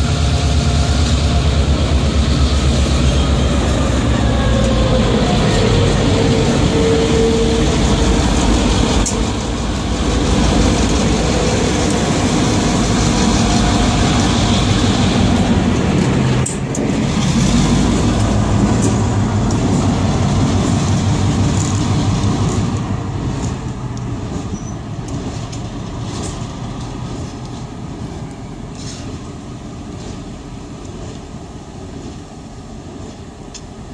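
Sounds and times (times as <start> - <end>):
diesel locomotive engines droning: 0.0 - 33.9
wheels rumbling on rails: 0.0 - 33.9.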